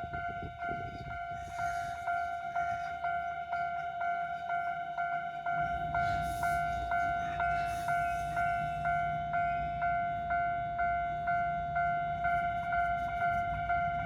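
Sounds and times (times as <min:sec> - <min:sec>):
level-crossing alarm clanging: 0:00.0 - 0:14.0
low rumble of train: 0:00.0 - 0:14.0.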